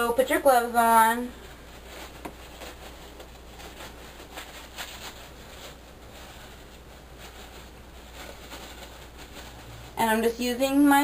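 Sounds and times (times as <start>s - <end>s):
disposable gloves rustling: 0.0s - 11.0s
low steady hum: 0.0s - 11.0s.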